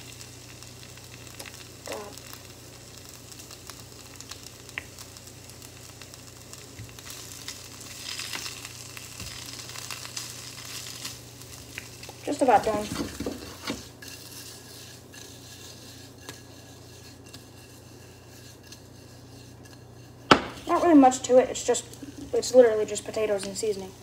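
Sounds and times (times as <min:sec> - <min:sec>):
potato wedges sizzling in a pan: 0:00.0 - 0:24.0.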